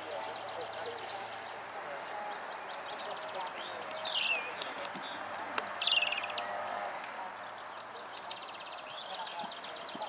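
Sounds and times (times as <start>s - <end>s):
songbirds chirping and trilling: 0.0s - 10.0s
steady outdoor hiss: 0.0s - 10.0s.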